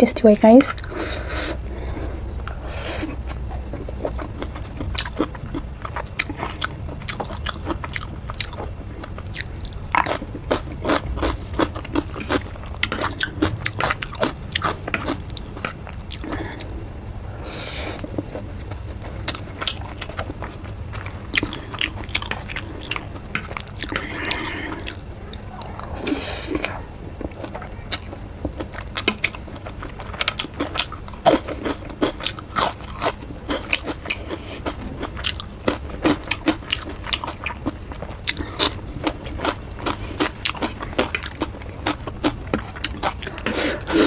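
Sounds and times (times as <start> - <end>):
person chewing noodles: 0.7 - 44.0.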